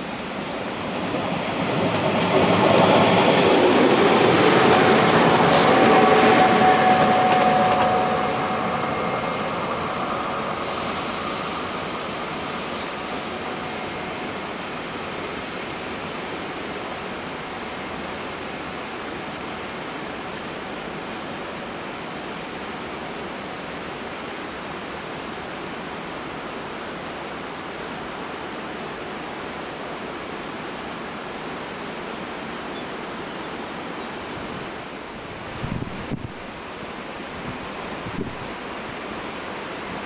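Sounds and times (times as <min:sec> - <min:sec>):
river rushing over rocks: 0:00.0 - 0:40.0.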